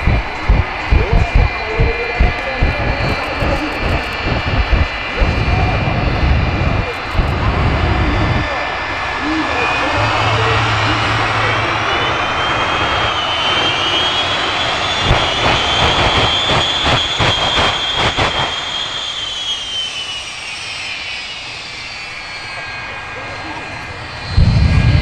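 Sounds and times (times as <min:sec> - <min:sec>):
jet engines roaring with whine: 0:00.0 - 0:25.0.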